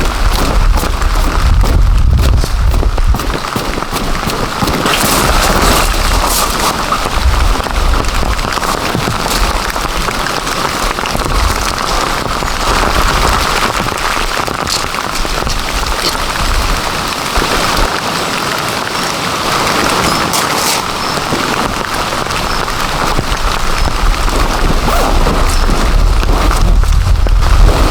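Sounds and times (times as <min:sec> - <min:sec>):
heavy rain hiss: 0:00.0 - 0:27.9
sharp raindrop impacts: 0:00.0 - 0:27.9.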